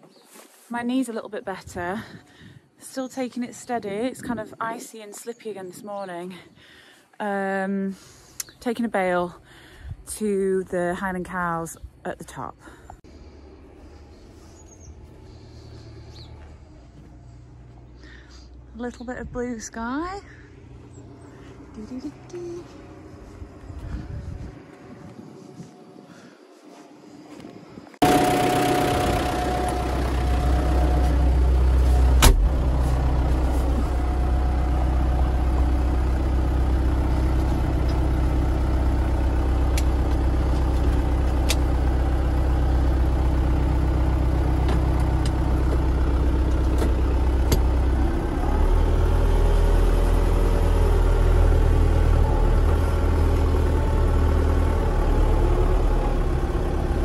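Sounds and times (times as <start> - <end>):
tractor diesel engine running: 7.2 - 26.8, 27.4 - 57.0.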